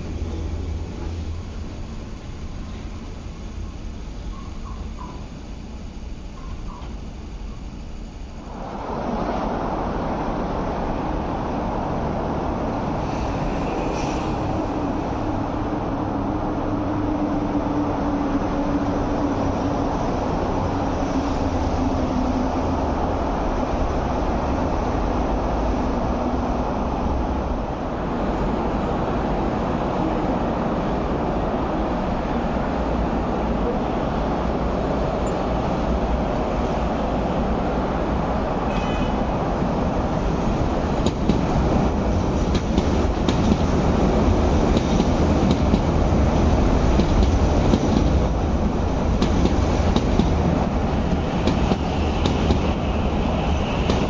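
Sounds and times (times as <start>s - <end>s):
electric trains rumbling: 0.0s - 54.0s.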